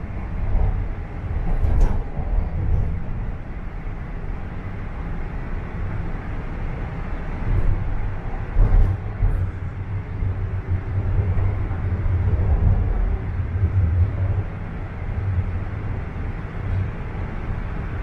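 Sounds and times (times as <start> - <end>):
subway train rumble: 0.0 - 18.0.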